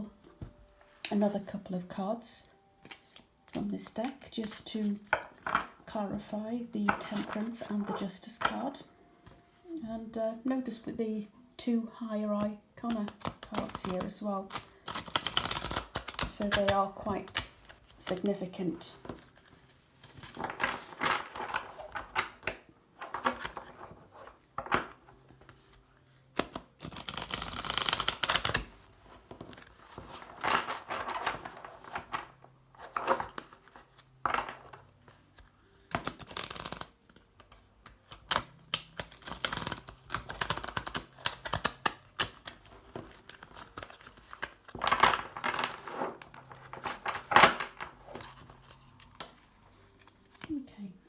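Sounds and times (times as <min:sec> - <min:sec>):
cards being shuffled: 0:02.8 - 0:05.8, 0:06.8 - 0:08.6, 0:12.4 - 0:50.7.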